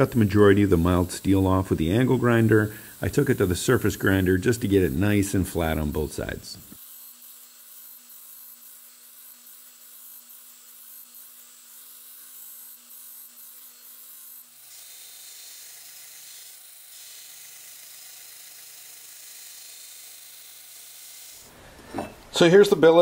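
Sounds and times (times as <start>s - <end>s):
belt grinder grinding steel: 0.0s - 22.2s.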